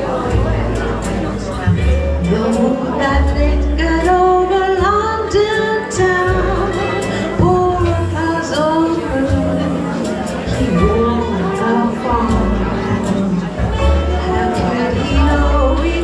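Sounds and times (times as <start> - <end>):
slow ballad live music: 0.0 - 16.0.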